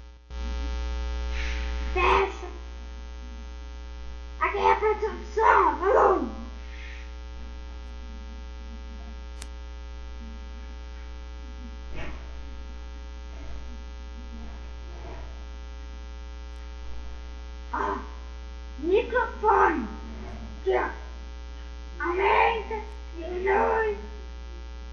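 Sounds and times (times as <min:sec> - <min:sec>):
electrical mains hum: 0:00.0 - 0:24.9.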